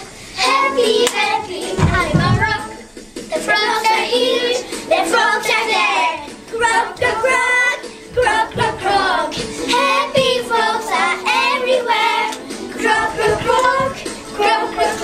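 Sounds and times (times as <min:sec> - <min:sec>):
children singing: 0:00.0 - 0:15.0.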